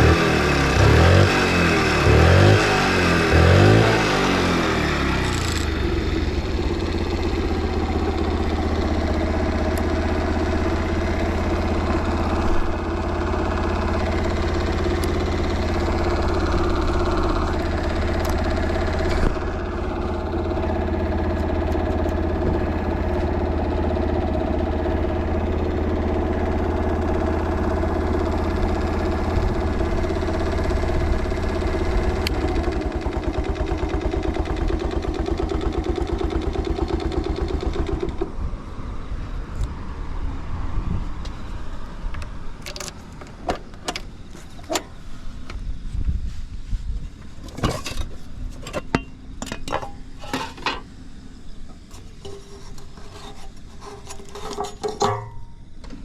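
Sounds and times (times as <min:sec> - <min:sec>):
small engine revving and idling: 0:00.0 - 0:49.0.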